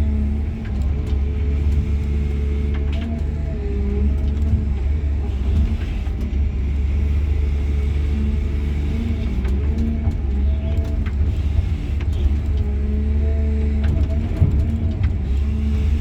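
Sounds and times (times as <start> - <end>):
excavator engine rumble: 0.0 - 16.0.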